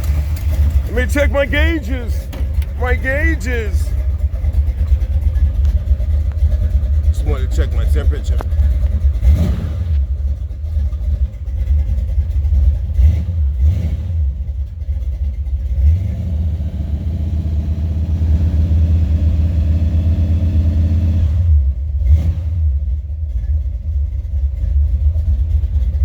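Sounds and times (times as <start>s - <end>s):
car engine running from inside cabin: 0.0s - 26.0s.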